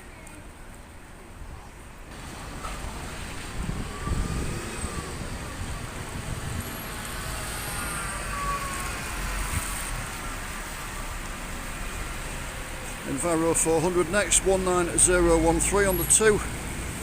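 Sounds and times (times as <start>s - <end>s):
bus diesel engine rumble: 0.4s - 17.0s.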